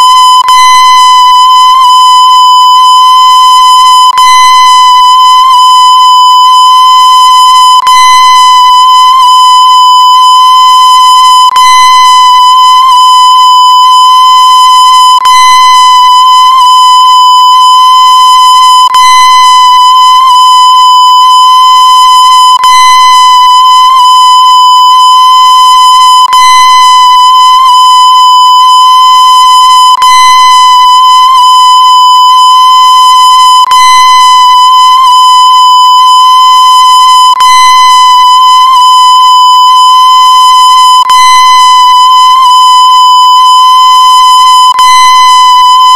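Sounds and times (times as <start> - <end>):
distorted electronic tone: 0.0 - 45.9.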